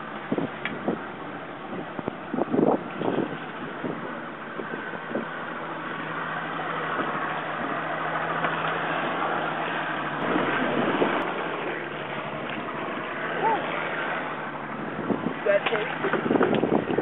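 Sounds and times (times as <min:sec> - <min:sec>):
motorboat engine running: 0:00.0 - 0:17.0
water noise: 0:00.0 - 0:17.0
wind: 0:00.0 - 0:17.0.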